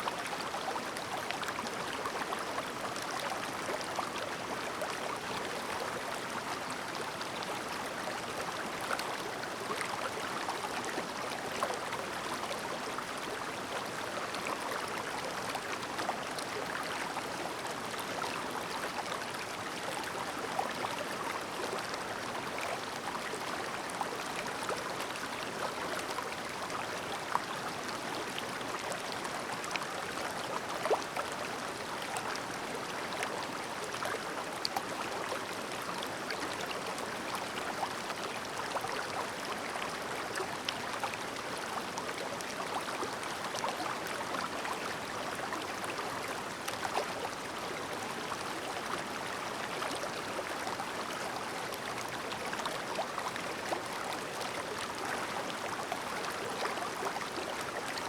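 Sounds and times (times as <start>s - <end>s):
shallow river babbling: 0.2s - 58.0s.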